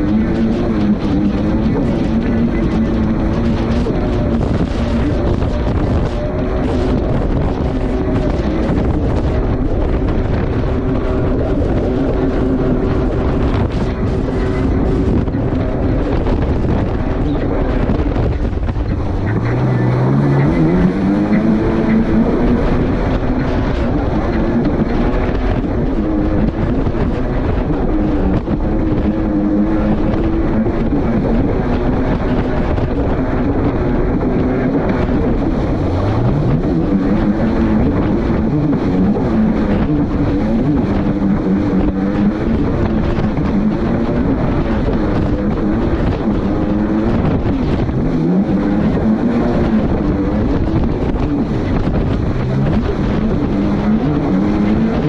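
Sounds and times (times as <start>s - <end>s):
jet ski engine running: 0.0s - 55.0s
rush of wind and water: 0.0s - 55.0s.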